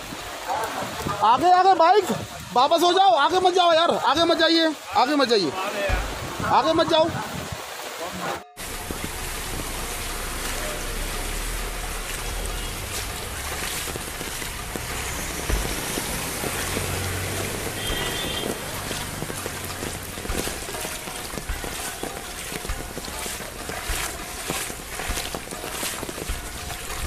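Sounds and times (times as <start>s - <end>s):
heavy rain pouring: 0.0s - 27.0s
running water: 0.0s - 27.0s.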